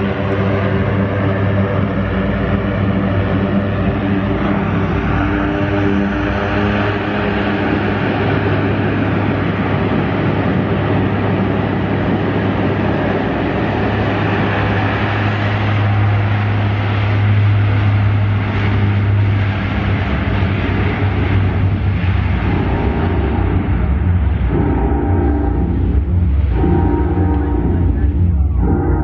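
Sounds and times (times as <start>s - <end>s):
aircraft engines droning overhead: 0.0s - 29.0s.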